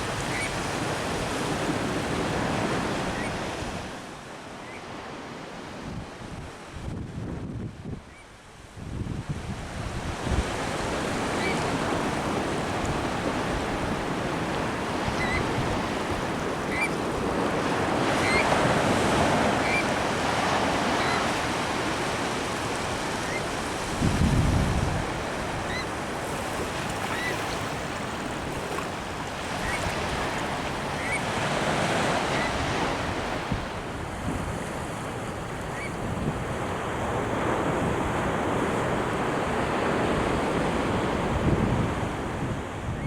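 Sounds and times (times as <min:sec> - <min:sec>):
surf breaking on beach: 0:00.0 - 0:04.1, 0:09.2 - 0:42.9
wind rumbling on microphone: 0:05.0 - 0:43.0.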